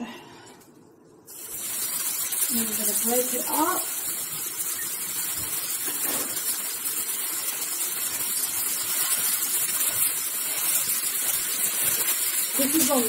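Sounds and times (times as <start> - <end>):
meat sizzling in a frying pan: 1.3 - 13.0
wooden spatula scraping pan: 1.6 - 13.0.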